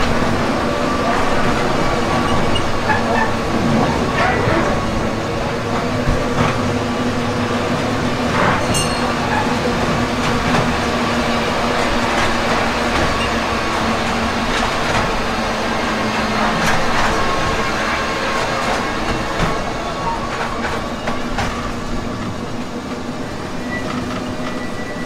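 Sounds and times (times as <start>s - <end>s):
ride train rumbling on track: 0.0s - 25.0s.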